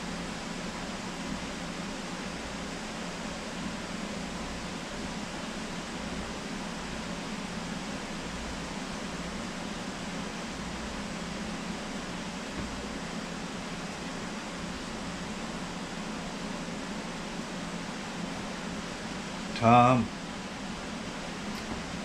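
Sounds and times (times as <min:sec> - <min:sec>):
electric fan whirring: 0:00.0 - 0:22.0.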